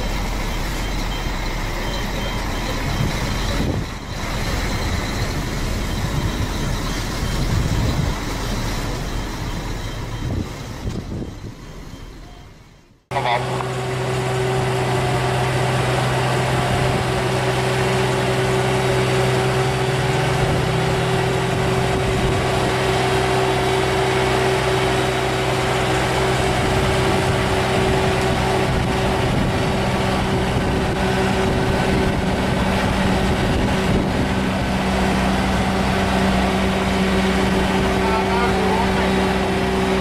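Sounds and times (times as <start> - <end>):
diesel truck engine under load: 0.0 - 40.0
higher engine tone: 0.0 - 40.0.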